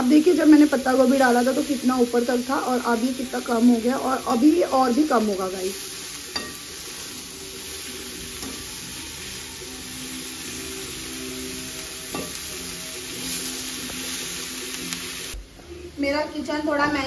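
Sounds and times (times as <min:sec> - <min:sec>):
vegetables sizzling in a pan: 0:00.0 - 0:15.4.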